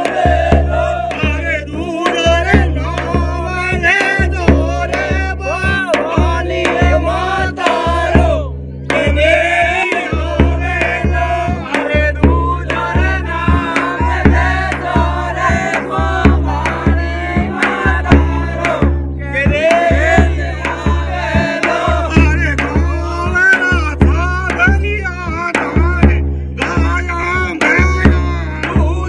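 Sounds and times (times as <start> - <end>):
drum beat: 0.0 - 29.0
folk singing: 0.0 - 29.0.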